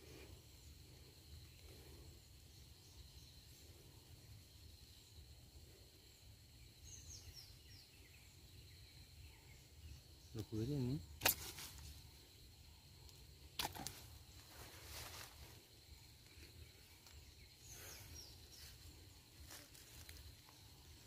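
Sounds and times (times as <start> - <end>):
faint insect-like tone: 0.0 - 21.0.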